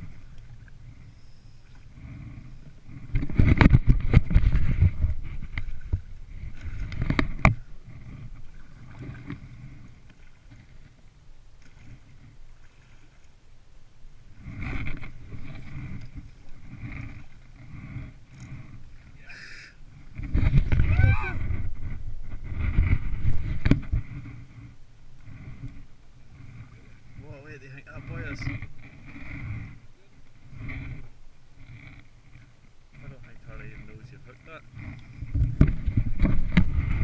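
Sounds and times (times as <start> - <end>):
paddle strokes through water: 0.0 - 37.0
water splashing against hull: 0.0 - 37.0.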